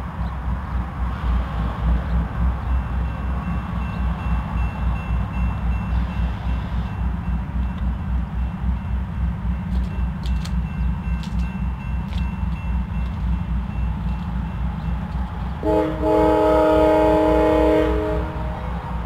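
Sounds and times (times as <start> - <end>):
diesel locomotive engines rumbling: 0.0 - 19.0.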